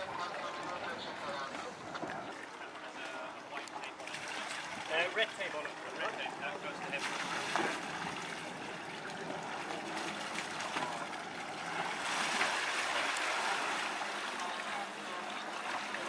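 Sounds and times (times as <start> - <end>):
water splashing along hull: 0.0 - 16.0.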